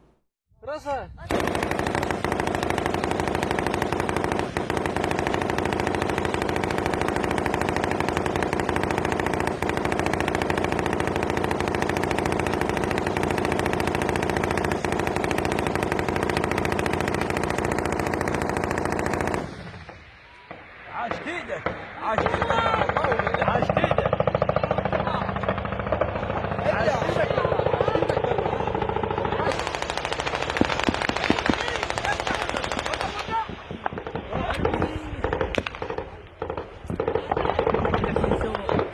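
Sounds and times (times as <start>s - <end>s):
automatic gunfire: 1.3s - 20.0s, 21.6s - 38.9s
loud bangs: 1.3s - 38.9s.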